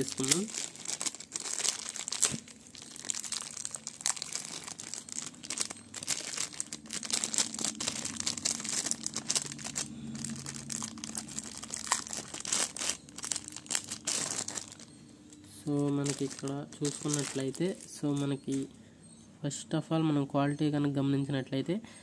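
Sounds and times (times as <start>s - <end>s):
plastic bag crinkling: 0.0s - 15.0s, 15.6s - 18.7s.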